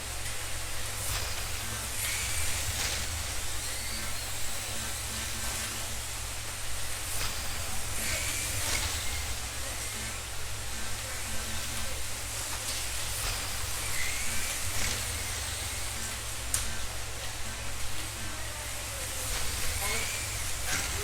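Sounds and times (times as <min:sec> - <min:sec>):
slot cars racing: 0:00.1 - 0:21.0.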